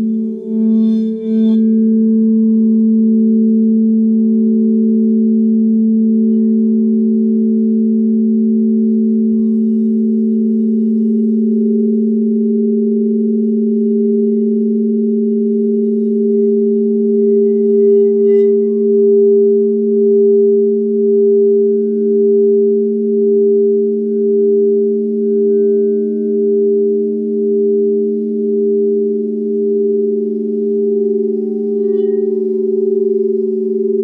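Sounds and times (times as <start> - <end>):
crystal singing bowls ringing: 0.0 - 34.0.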